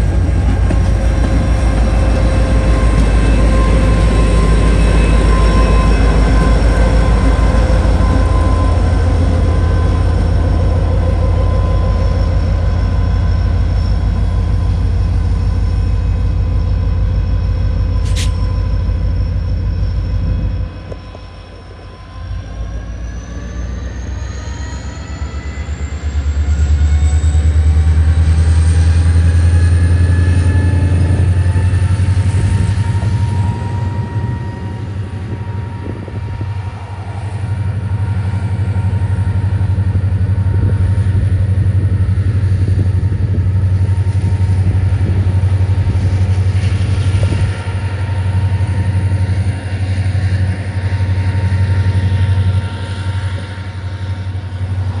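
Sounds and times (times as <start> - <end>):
locomotive engine rumbling: 0.0 - 55.0
rising whine: 0.0 - 55.0.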